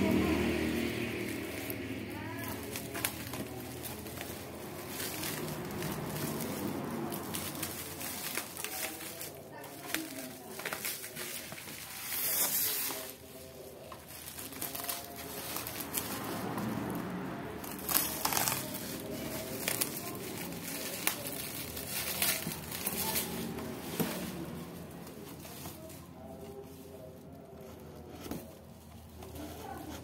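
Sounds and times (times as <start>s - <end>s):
bubble wrap crinkling and tearing: 0.0s - 27.6s.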